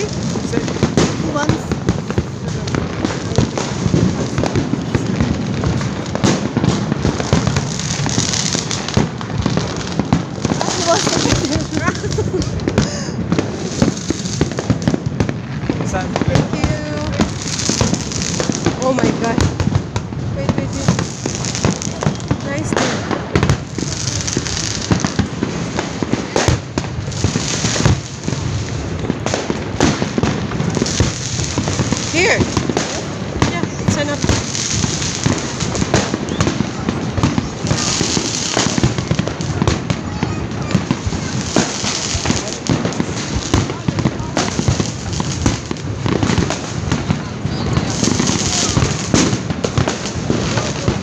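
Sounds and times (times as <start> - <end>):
distant firework bursts rumbling: 0.0 - 51.0
fireworks crackling: 0.0 - 51.0.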